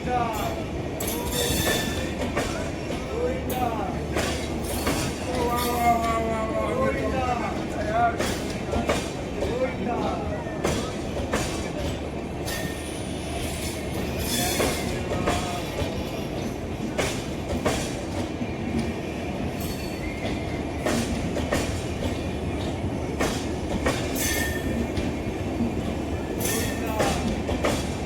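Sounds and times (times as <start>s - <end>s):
train coaches rumbling past: 0.0s - 28.0s.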